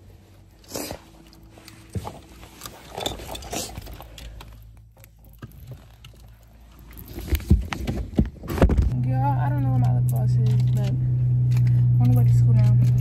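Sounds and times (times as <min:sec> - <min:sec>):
low hum inside a car: 0:00.0 - 0:13.0.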